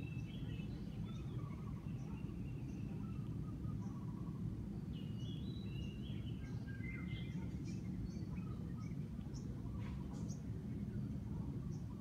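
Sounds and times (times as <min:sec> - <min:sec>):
wild birds chirping and whistling: 0:00.0 - 0:12.0.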